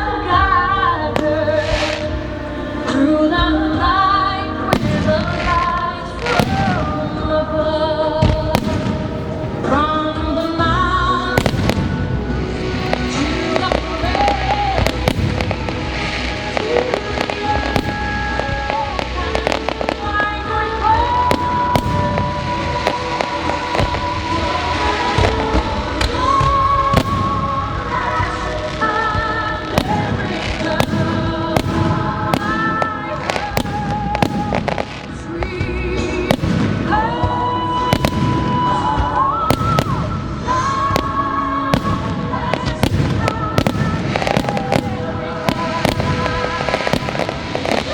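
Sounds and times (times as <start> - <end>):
fireworks bursting and crackling: 0.0 - 47.9
music soundtrack: 0.0 - 47.9.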